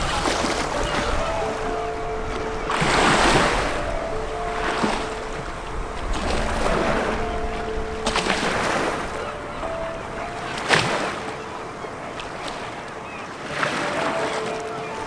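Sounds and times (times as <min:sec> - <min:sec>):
slow held music chords: 0:00.0 - 0:13.0
waves on a rocky shore: 0:00.0 - 0:15.0.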